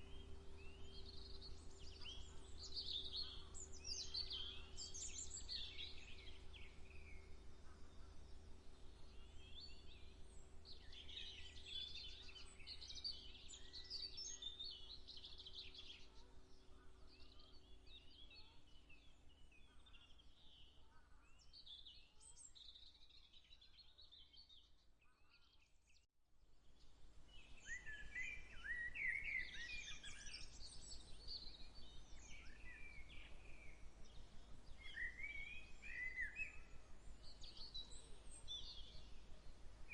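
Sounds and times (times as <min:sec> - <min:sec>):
songbirds chirping and warbling: 0:00.0 - 0:26.0, 0:26.6 - 0:39.9.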